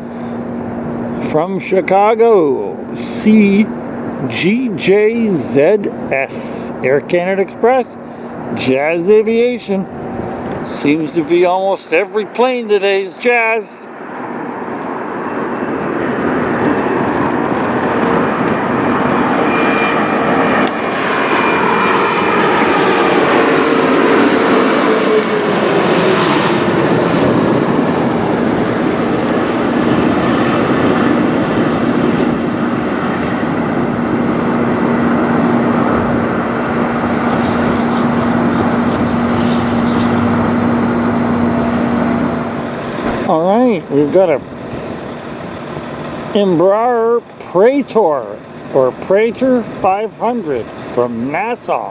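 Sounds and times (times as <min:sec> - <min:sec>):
jet engine whine: 0:00.0 - 0:51.9
jet flying overhead: 0:00.0 - 0:51.9.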